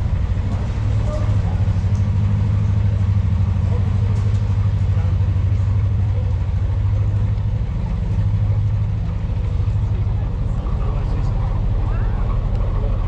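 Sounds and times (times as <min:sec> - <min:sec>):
boat diesel engine humming: 0:00.0 - 0:13.0.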